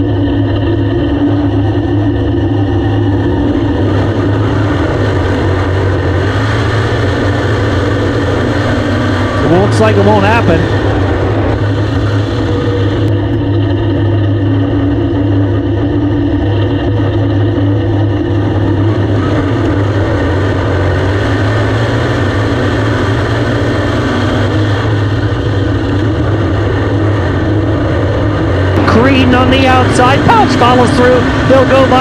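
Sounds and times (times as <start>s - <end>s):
race car engine running: 0.0s - 32.0s.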